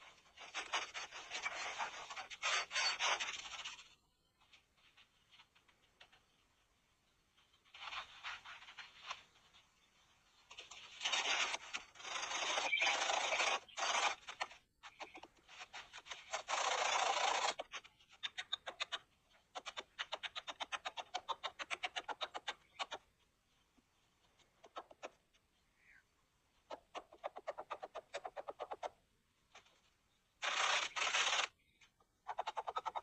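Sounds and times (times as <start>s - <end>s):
scratching and scraping: 0.0s - 25.3s, 26.6s - 33.0s.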